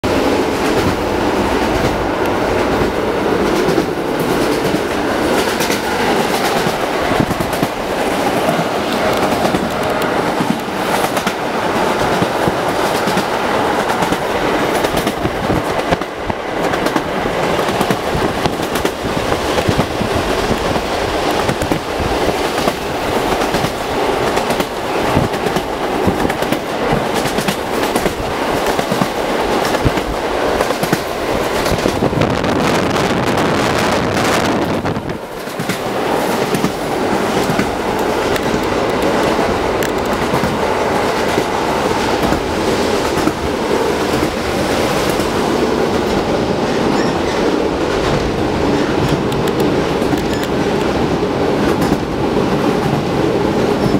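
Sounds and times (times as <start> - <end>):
train wheels rumbling and rattling: 0.0 - 53.9.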